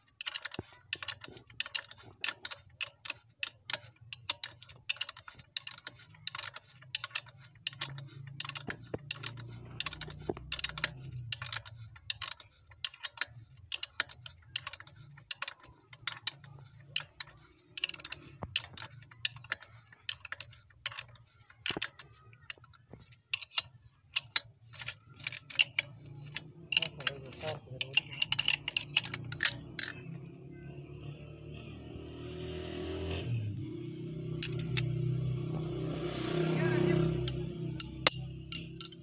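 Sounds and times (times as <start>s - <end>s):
ratchet wrench clicking: 0.0s - 30.3s, 34.1s - 39.0s.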